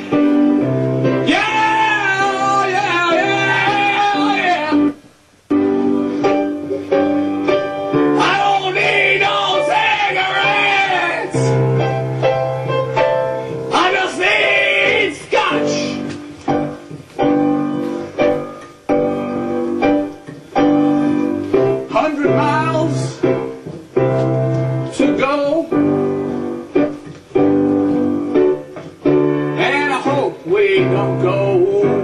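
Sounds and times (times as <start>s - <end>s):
piano chords ringing: 0.0s - 32.0s.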